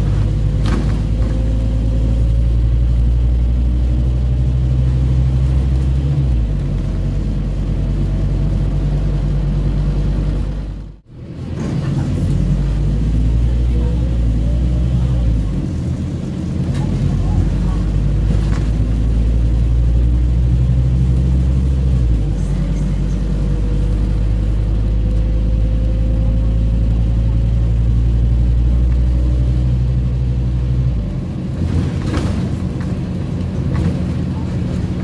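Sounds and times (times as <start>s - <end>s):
bus diesel engine droning: 0.0s - 35.0s.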